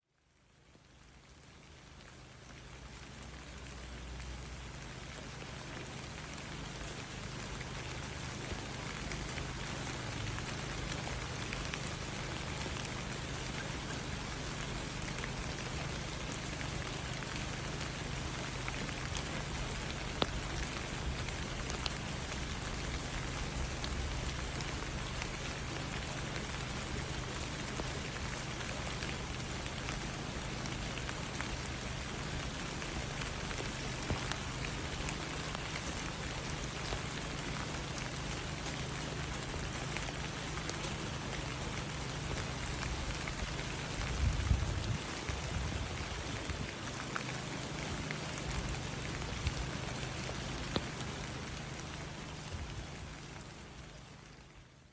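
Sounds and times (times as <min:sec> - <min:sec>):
steady rain: 0:00.0 - 0:54.9
raindrop ticks: 0:00.5 - 0:54.9.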